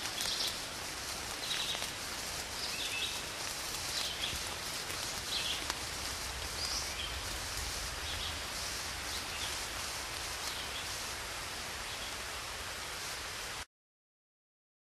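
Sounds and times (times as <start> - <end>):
rushing outdoor ambience: 0.0 - 13.6.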